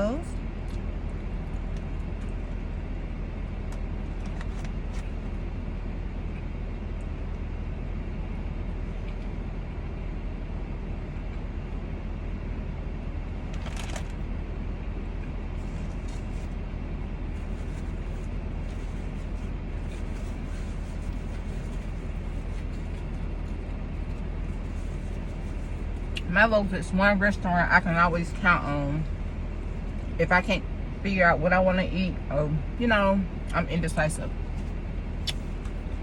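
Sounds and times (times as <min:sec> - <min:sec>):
car cabin rumble: 0:00.0 - 0:36.0.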